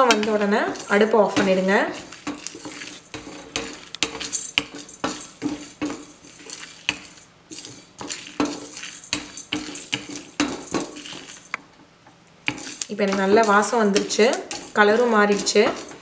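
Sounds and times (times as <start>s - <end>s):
grains rattling against metal: 0.0s - 11.6s, 12.4s - 16.0s
wooden spatula scraping metal pan: 0.0s - 11.6s, 12.4s - 16.0s.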